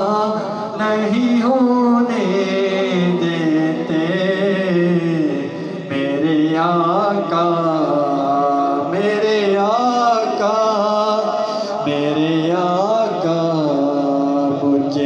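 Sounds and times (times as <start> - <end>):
man singing with delay echo: 0.0 - 15.0.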